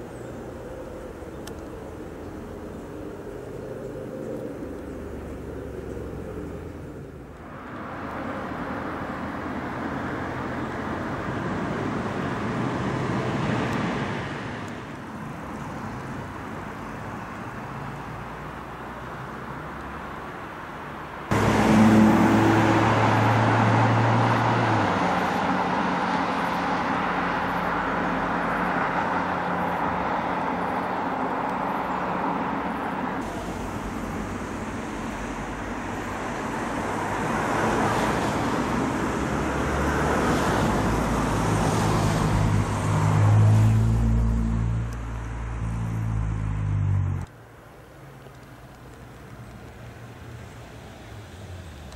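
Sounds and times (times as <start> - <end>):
cars passing: 0.0 - 51.9
vehicle engine low hum: 0.0 - 51.9.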